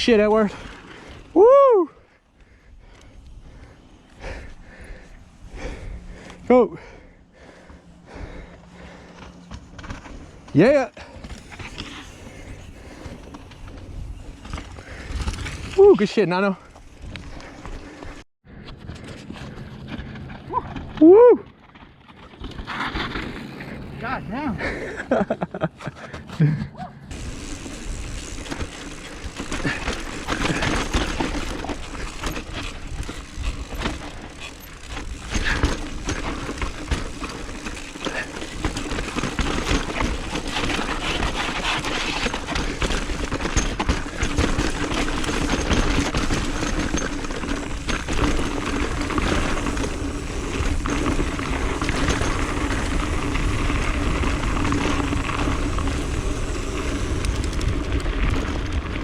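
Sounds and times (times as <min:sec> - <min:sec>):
bike tyres rolling over dirt: 0:00.0 - 0:59.0
bike rattling and knocking: 0:05.6 - 0:59.0.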